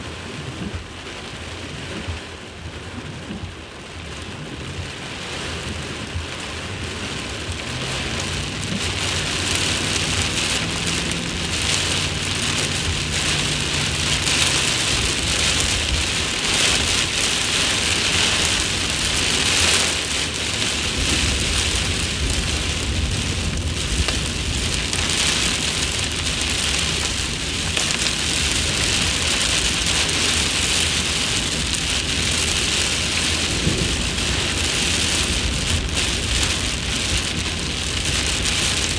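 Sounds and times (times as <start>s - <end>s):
heavy rain on car windshield: 0.0s - 38.9s
low rumble: 2.0s - 38.9s.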